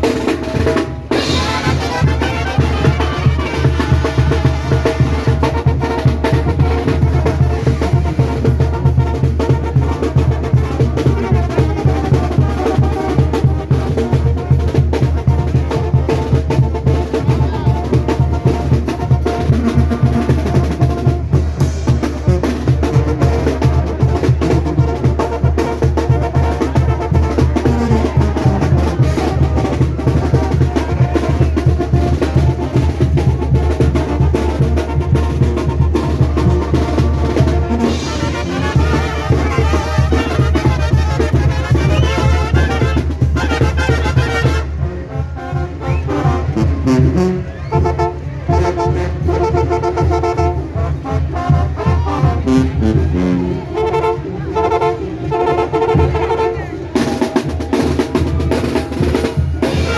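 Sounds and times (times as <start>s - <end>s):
cymbals and snare: 0.0s - 44.8s, 45.8s - 59.9s
drums: 0.0s - 59.9s
trombones: 0.0s - 59.9s
trumpets: 0.0s - 59.9s.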